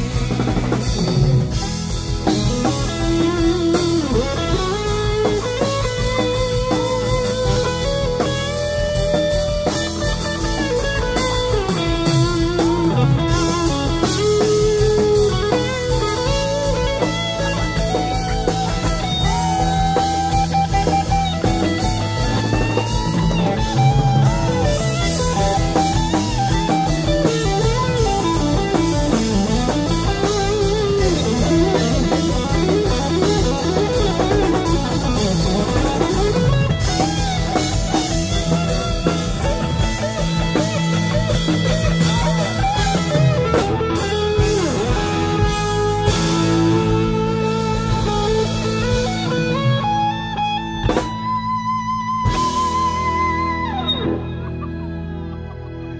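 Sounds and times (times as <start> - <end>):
electric guitar bending pitch: 0.0 - 55.9
live rock band: 0.0 - 55.9.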